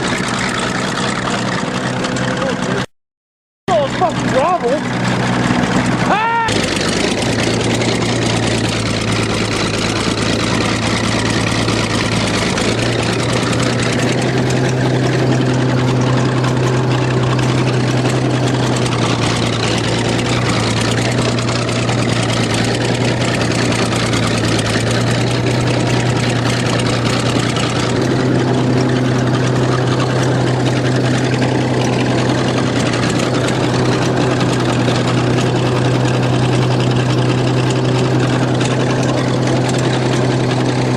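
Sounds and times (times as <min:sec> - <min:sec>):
engine humming: 0:00.0 - 0:02.9, 0:03.7 - 0:40.9.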